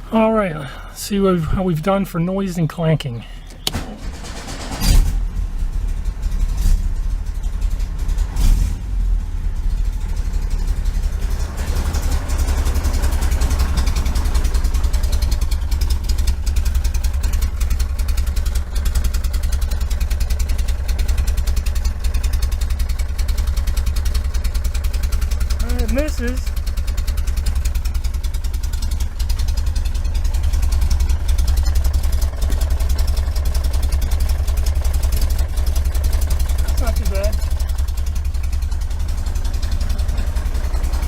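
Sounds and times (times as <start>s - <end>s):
car engine exhaust rumble: 0.0s - 41.0s.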